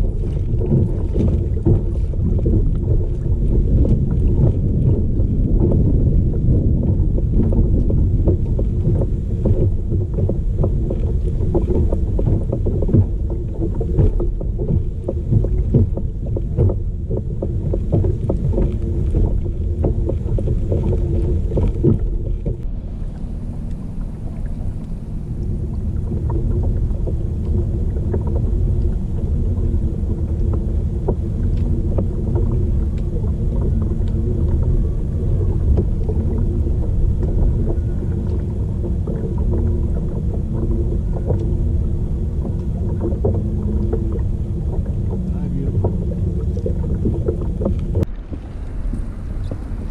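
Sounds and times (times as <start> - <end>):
faint steady drone: 0.0 - 49.9
small ticks and splashes: 0.0 - 49.9
water rumbling along kayak hull: 0.0 - 49.9.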